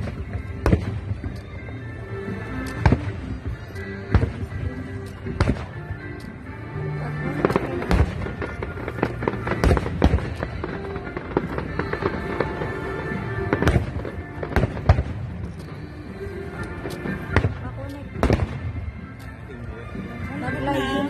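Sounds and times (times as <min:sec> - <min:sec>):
fireworks bangs and crackles: 0:00.0 - 0:06.4, 0:07.0 - 0:19.3
music playing: 0:00.0 - 0:21.0.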